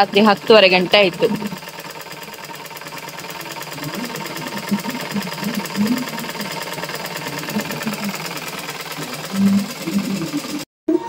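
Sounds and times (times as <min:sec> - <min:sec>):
treadle sewing machine clattering: 0:00.0 - 0:10.7.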